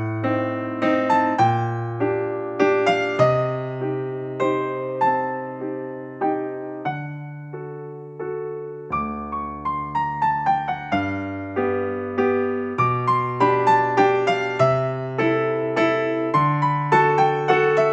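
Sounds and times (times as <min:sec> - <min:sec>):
gentle piano tune: 0:00.0 - 0:17.9.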